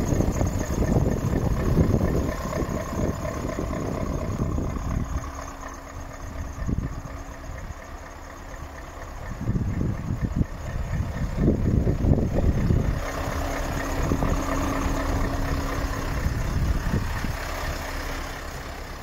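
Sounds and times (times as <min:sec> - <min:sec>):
uneven low rumble: 0:00.0 - 0:18.2
steady low hum: 0:00.0 - 0:18.7
diesel engine idling: 0:00.0 - 0:19.0.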